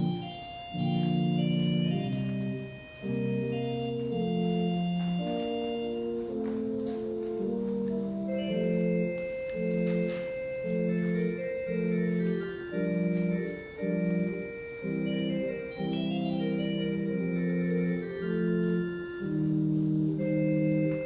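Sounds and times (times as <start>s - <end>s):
organ playing held chords: 0.0s - 21.0s.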